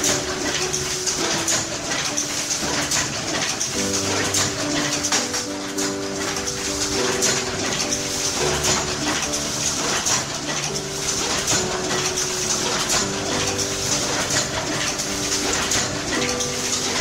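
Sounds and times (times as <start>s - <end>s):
background music melody: 0.0s - 17.0s
printing press clattering: 0.0s - 17.0s.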